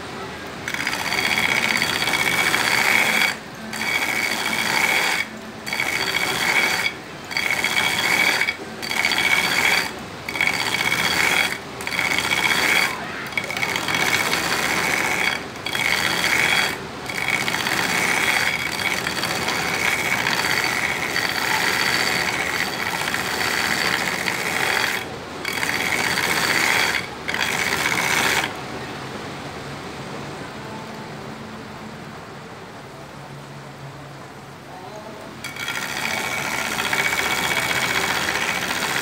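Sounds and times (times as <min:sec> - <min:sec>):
grinder machine running: 0:00.0 - 0:28.7, 0:35.4 - 0:39.0
knife blade grinding on belt grinder: 0:00.6 - 0:28.6, 0:35.4 - 0:39.0.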